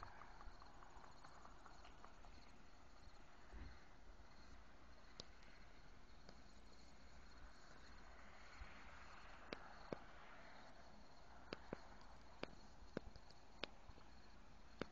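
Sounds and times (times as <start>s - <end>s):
insects chirping: 0.0s - 14.9s.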